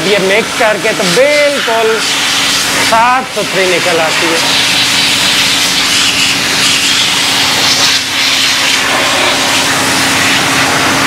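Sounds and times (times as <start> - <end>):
motor humming: 0.0 - 11.0
pressurised spray hissing: 0.0 - 11.0.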